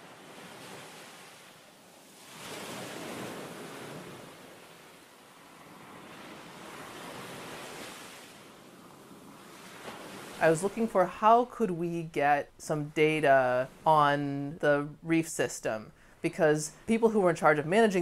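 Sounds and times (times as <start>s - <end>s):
waves breaking on a beach: 0.0s - 14.9s.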